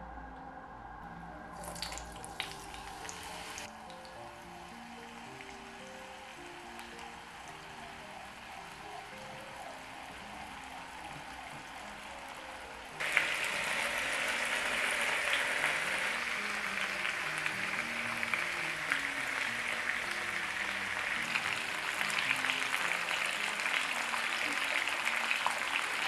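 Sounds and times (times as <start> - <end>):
potatoes sizzling in oil: 1.6 - 3.7, 4.6 - 26.0.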